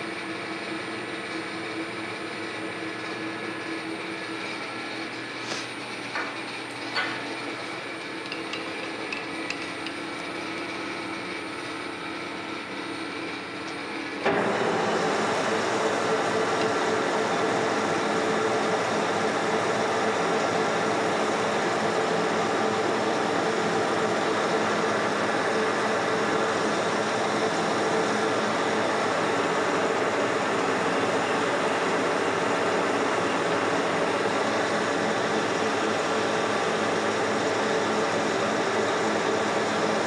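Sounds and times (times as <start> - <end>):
metal lathe cutting: 6.2 - 40.0.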